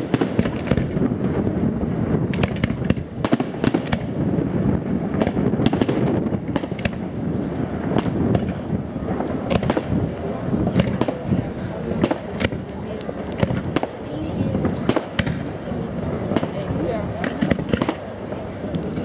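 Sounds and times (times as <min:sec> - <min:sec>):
firework booms: 0:00.0 - 0:19.0
sharp firework cracks: 0:00.0 - 0:19.0.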